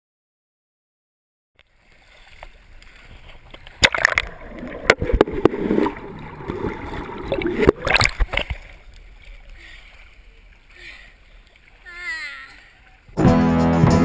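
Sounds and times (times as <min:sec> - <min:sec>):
water splashing from swimming: 0:01.6 - 0:13.2.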